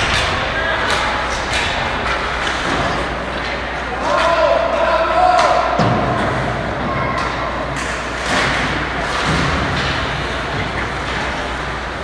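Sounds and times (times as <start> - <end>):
puck and sticks hitting boards: 0.0 - 12.0.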